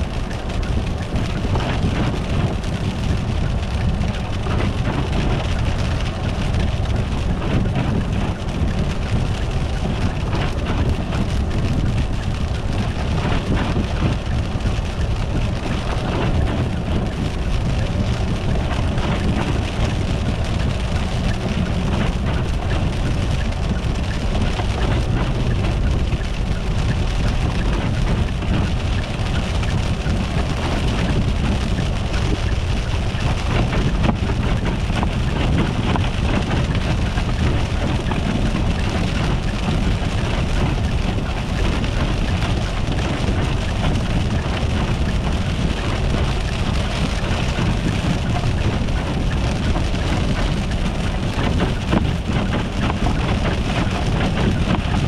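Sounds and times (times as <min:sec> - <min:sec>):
car driving on wet road: 0:00.0 - 0:55.0.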